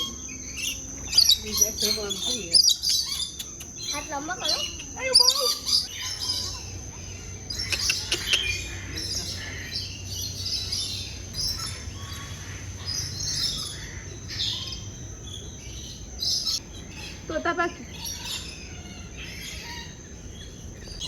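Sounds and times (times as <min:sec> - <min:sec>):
parrots chirping and squawking: 0:00.0 - 0:21.0
steady high-pitched whine: 0:00.0 - 0:21.0.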